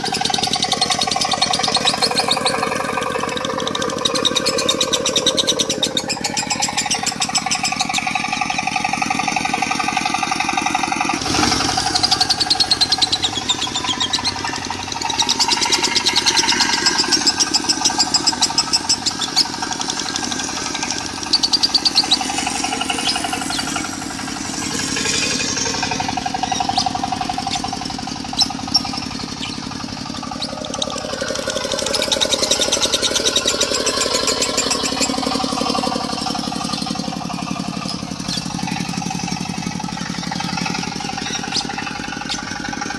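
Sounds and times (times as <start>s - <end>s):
lovebird chattering trills: 0.0s - 11.2s, 11.8s - 42.9s
diesel engine running: 0.0s - 42.9s.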